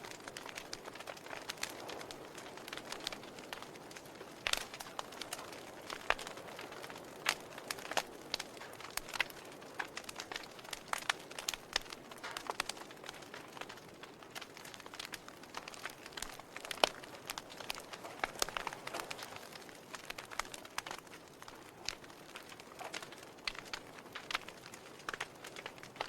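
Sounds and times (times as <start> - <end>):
logs crackling in a fireplace: 0.0 - 26.0.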